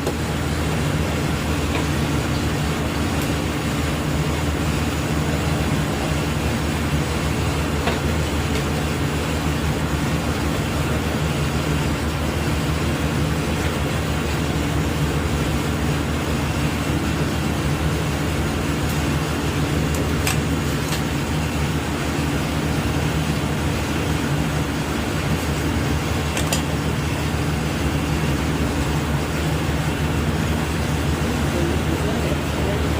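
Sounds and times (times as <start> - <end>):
low mechanical hum: 0.0 - 32.9.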